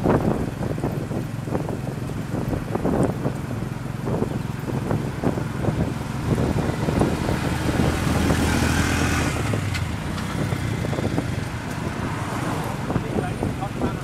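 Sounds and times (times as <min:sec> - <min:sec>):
tyre and wind hiss: 0:00.0 - 0:14.0
vehicle engine running: 0:00.0 - 0:14.0.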